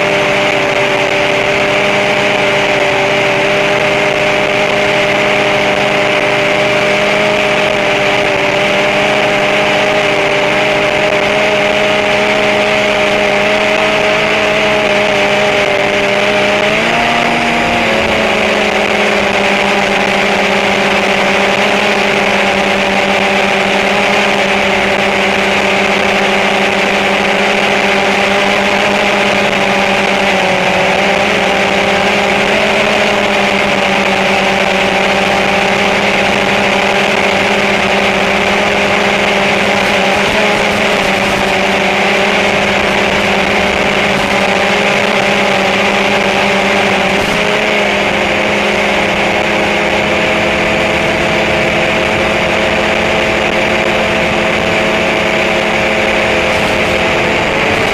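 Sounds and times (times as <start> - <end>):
drone rotors buzzing: 0.0 - 57.9.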